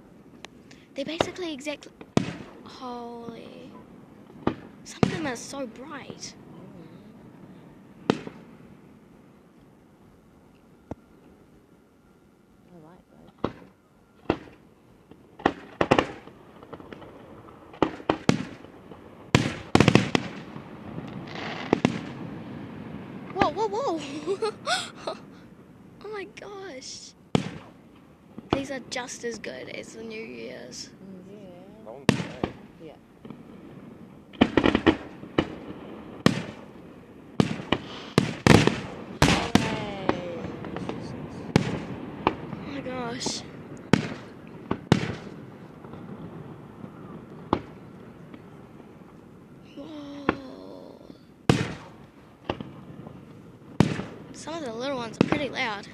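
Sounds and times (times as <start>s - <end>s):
fireworks crackling: 0.0s - 6.5s, 7.2s - 8.8s, 13.4s - 55.9s
fireworks bangs: 0.9s - 6.6s, 7.9s - 8.6s, 13.4s - 25.4s, 26.1s - 31.0s, 31.9s - 55.9s.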